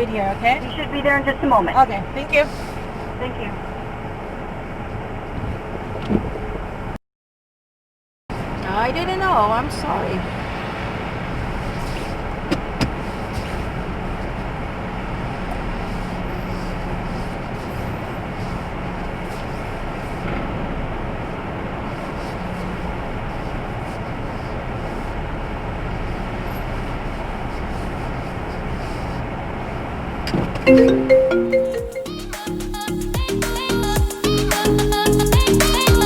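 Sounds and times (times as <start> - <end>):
car cabin engine hum: 0.0 - 7.0, 8.3 - 30.6.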